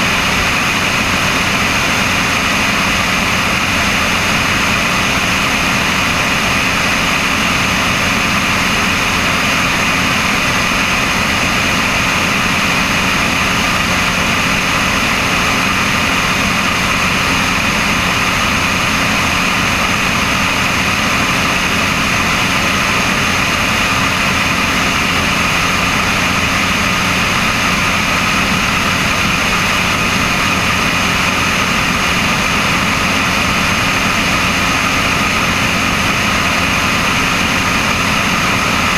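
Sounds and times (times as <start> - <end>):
propeller plane engine drone: 0.0 - 38.9
steady rushing noise: 0.0 - 38.9.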